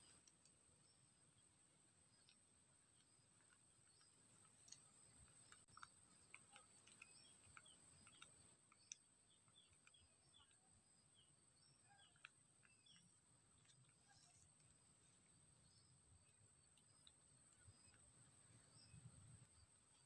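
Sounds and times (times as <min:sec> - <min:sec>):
soft high bird chirps: 0:00.0 - 0:20.0.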